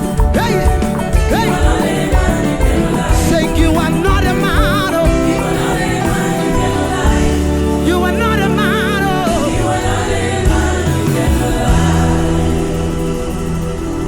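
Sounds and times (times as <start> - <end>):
gospel band accompaniment: 0.0 - 14.0.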